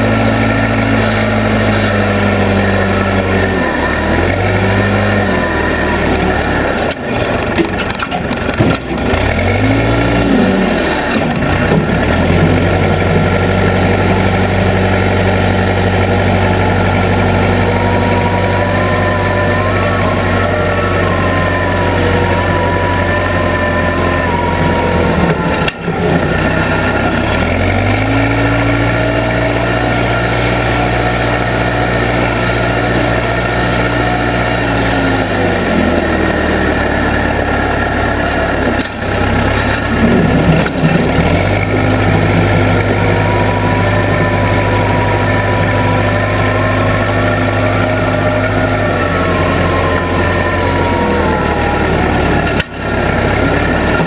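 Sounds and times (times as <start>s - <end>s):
backhoe engine running: 0.0s - 54.0s
gliding whine: 0.0s - 54.0s.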